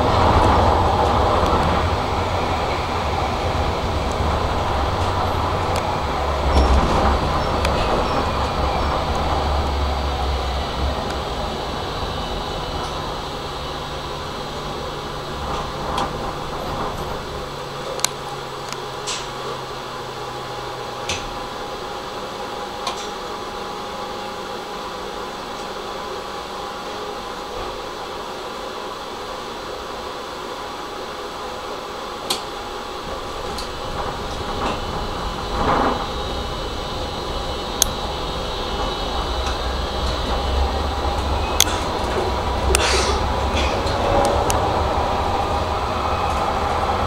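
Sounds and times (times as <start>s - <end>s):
tram equipment humming: 0.0s - 47.0s
tram running gear rumble: 0.0s - 47.0s.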